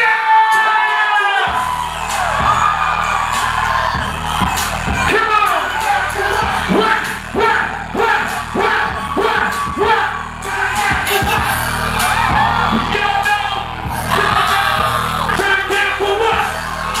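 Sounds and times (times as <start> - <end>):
crowd yelling and whooping: 0.0 - 17.0
live music with singing: 0.0 - 17.0.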